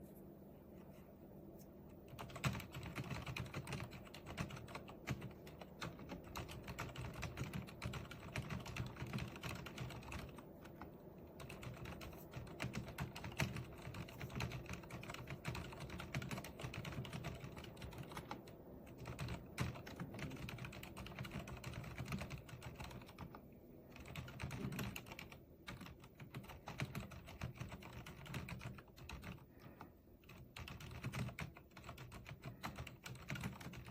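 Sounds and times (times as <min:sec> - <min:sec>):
mechanical keyboard typing: 0:01.9 - 0:33.9.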